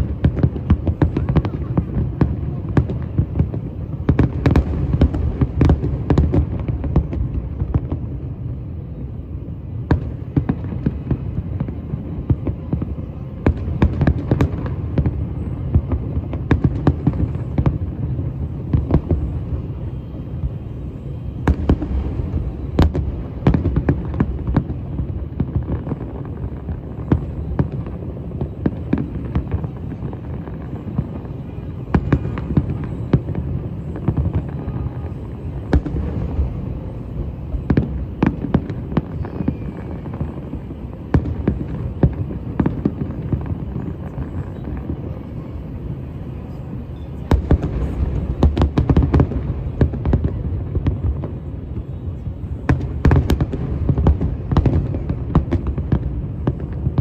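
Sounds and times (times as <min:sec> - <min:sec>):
fireworks bangs and pops: 0:00.0 - 0:08.6, 0:09.7 - 0:57.0
continuous low rumble: 0:00.0 - 0:57.0.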